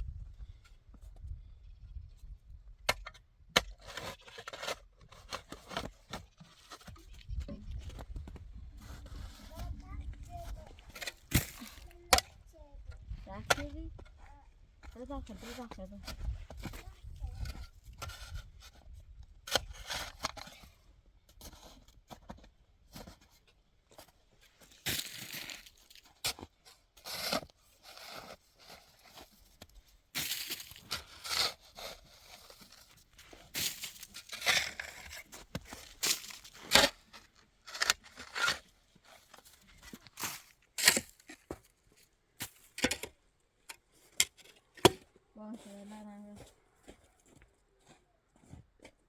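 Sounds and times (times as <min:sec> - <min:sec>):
rustling and scraping: 0:03.6 - 0:12.3, 0:12.9 - 0:47.4.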